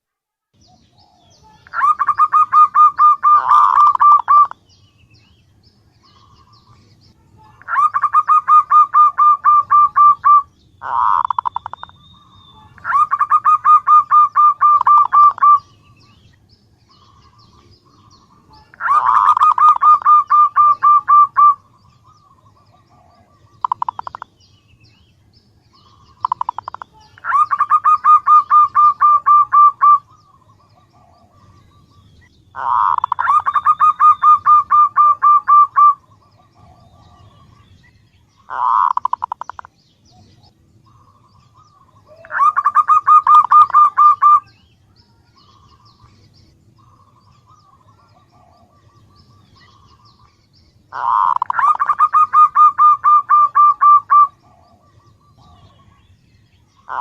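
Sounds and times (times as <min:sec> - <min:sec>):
dove trilling call: 0:00.6 - 0:57.0.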